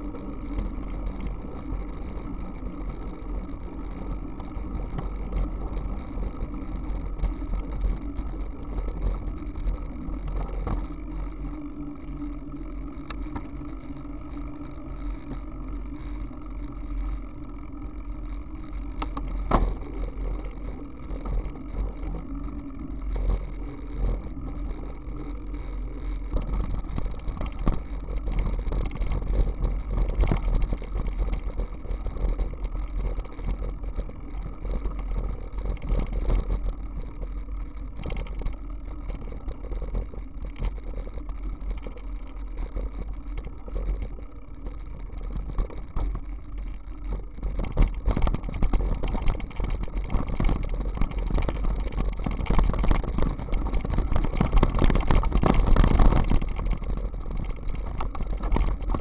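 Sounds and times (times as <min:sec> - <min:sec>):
tyres rumbling on asphalt and gravel: 0:00.0 - 0:59.0.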